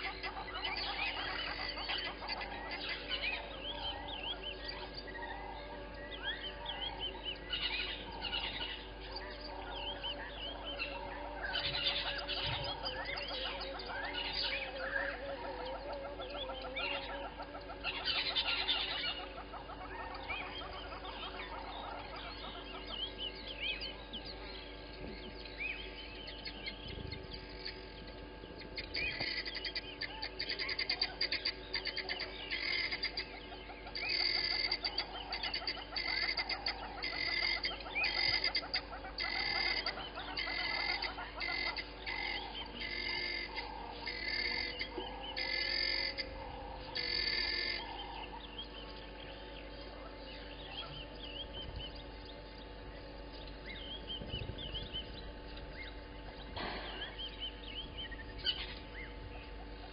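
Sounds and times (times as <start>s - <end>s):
birds chirping and calling: 0.0s - 59.9s
rapid harsh bird calls: 0.0s - 59.9s.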